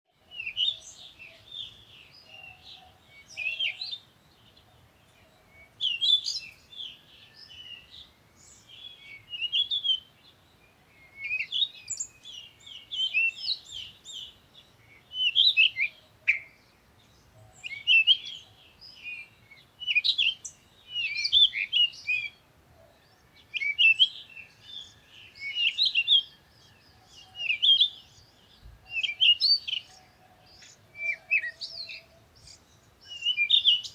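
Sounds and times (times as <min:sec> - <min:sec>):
bird chirping: 0:00.1 - 0:33.9.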